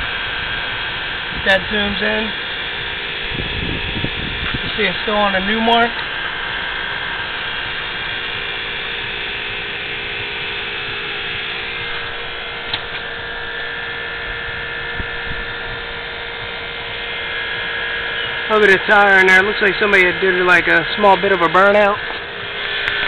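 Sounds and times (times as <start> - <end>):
electrical whine: 0.0 - 23.0.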